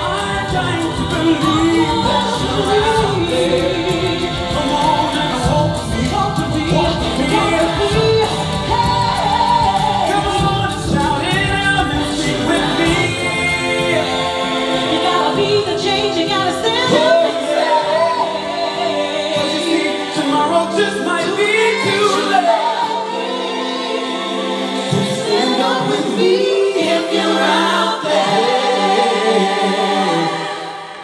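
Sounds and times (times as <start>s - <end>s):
a cappella group singing in harmony: 0.0s - 31.0s.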